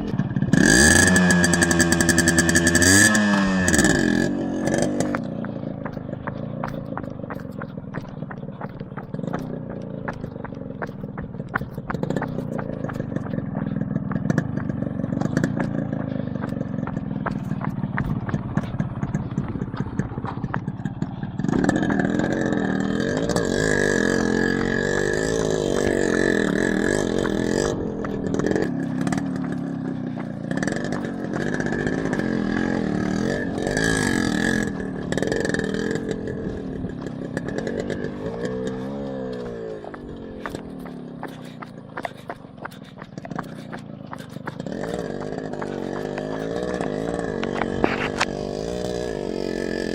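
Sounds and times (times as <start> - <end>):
motorcycle engine revving uphill: 0.0 - 49.9.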